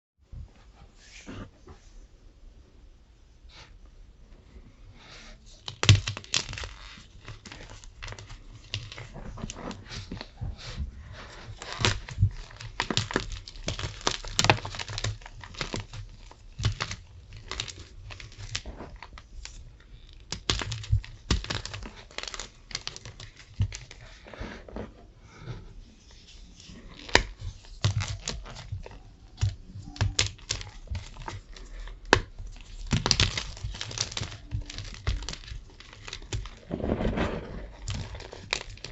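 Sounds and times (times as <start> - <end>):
chalk blocks crunching: 5.6 - 24.6, 26.2 - 38.9.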